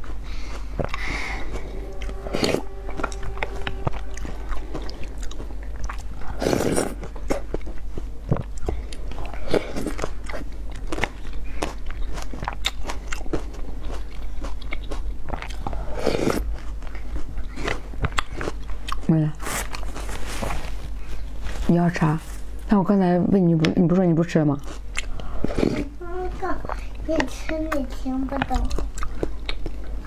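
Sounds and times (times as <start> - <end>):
wet chewing with crisp crunches: 0.0 - 21.0, 24.5 - 30.0.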